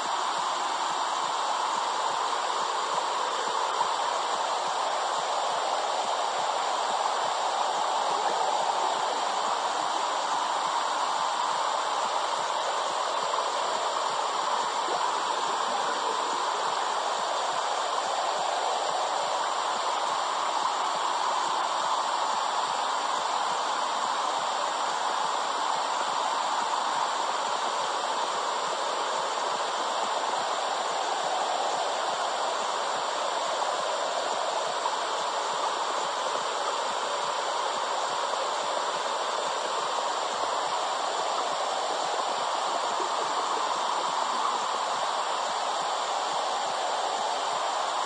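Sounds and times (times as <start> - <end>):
steady whooshing hiss: 0.0 - 48.0.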